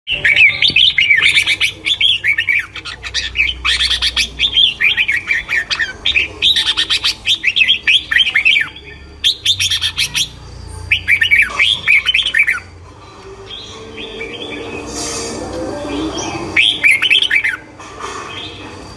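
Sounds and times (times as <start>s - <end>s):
songbirds twittering: 0.1s - 18.9s.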